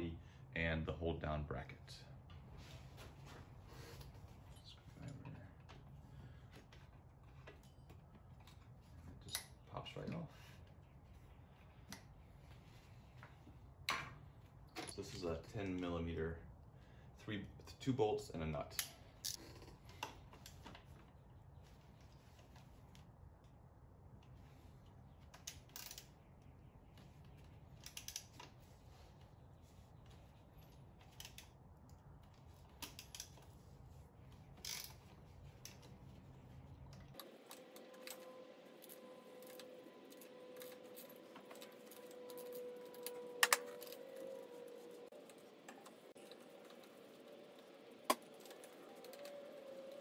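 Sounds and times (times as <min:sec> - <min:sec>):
faint steady whine: 0:00.0 - 0:50.0
low background hum: 0:00.0 - 0:50.0.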